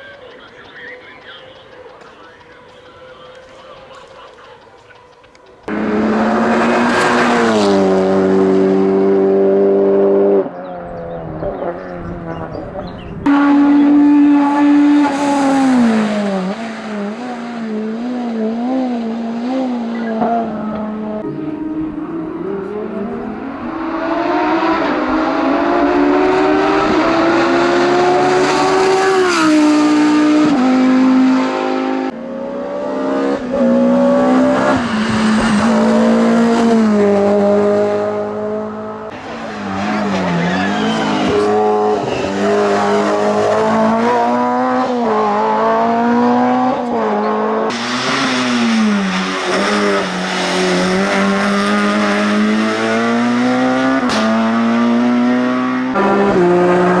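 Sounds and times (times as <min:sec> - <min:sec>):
race car engines at full throttle: 0:00.0 - 0:57.0.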